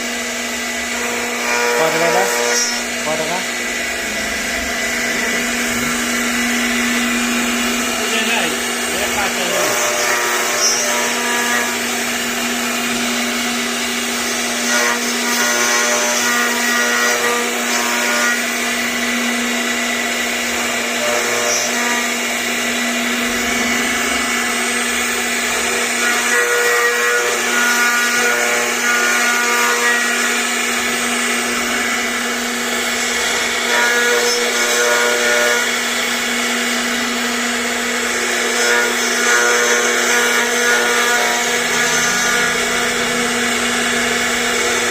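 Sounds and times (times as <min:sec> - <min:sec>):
cnc router spindle whine: 0:00.0 - 0:44.9.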